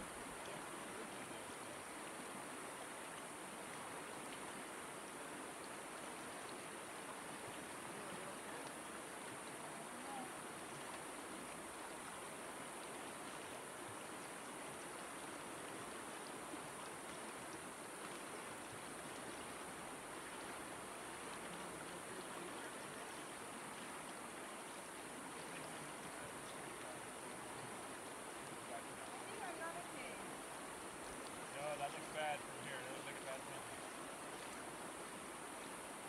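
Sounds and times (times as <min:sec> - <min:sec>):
river water over rocks: 0:00.0 - 0:36.0.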